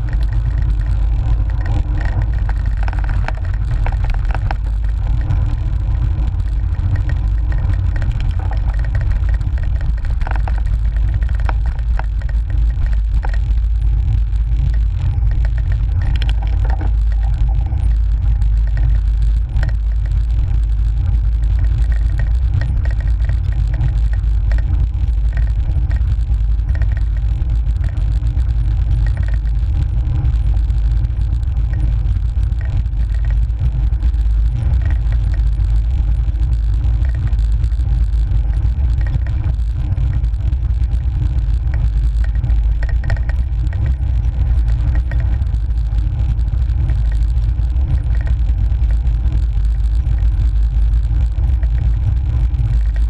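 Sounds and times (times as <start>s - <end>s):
bike road rumble: 0.0s - 53.0s.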